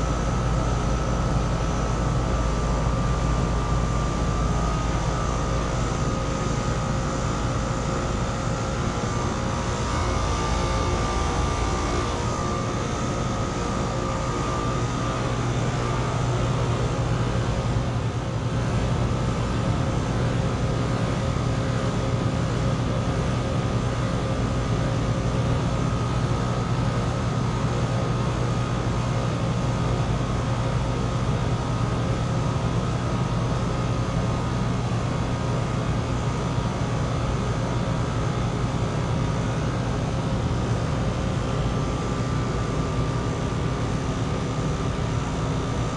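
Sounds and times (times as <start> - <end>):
compressor hum: 0.0 - 45.9
condenser fan rushing: 0.0 - 45.9.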